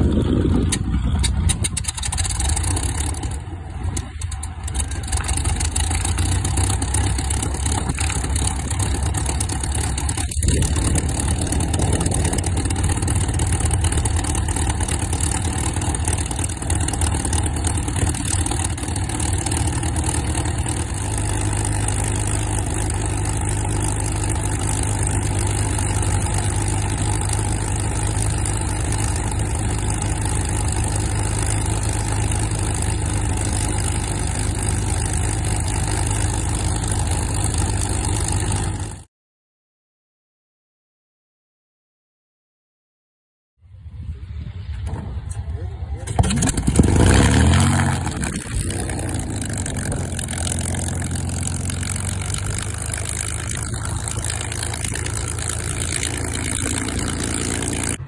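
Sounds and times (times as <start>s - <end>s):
aircraft engines idling: 0.0s - 39.0s, 43.8s - 58.0s.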